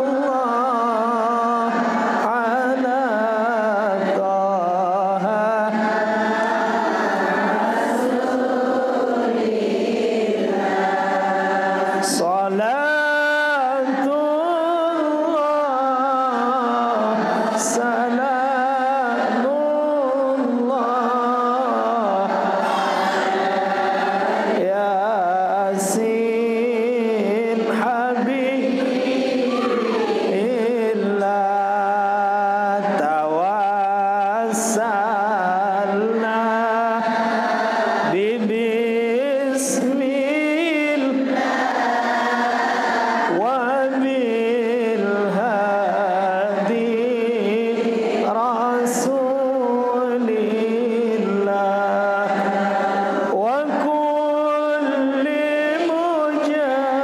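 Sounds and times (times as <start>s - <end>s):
voices chanting ornamented lines: 0.0s - 57.0s.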